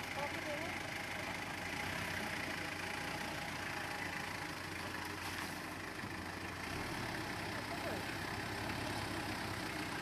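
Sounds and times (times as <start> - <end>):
pickup engine idling: 0.0 - 10.0.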